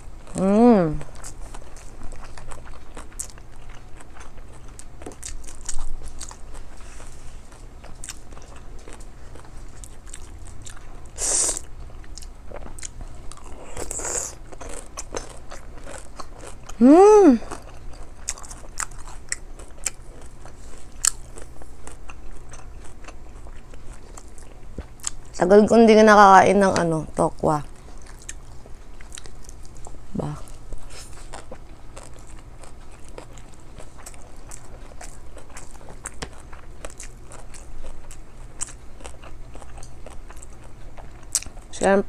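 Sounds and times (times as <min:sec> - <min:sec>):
wet chewing: 0:00.0 - 0:25.4, 0:27.6 - 0:41.8.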